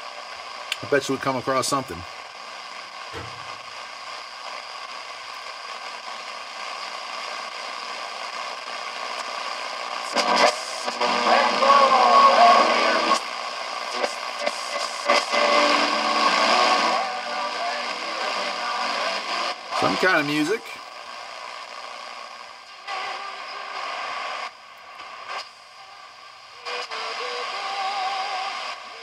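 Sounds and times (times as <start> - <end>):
radio static hissing: 0.0 - 29.0
wavering radio station signal: 0.0 - 29.0.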